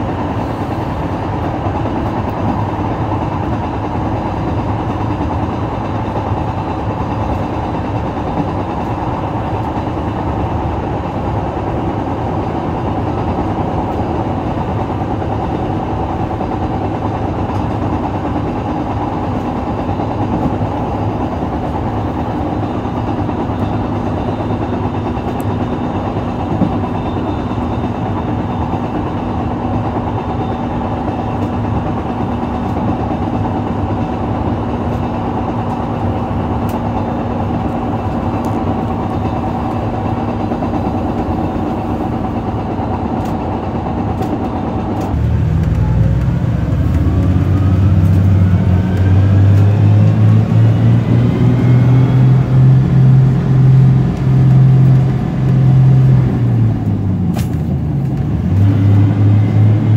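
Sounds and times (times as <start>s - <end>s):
railcar rumbling on track: 0.0s - 59.9s.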